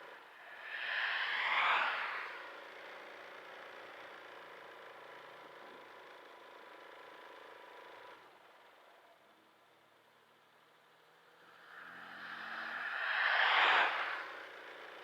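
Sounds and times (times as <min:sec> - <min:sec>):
faint engine whine: 0:00.0 - 0:15.0.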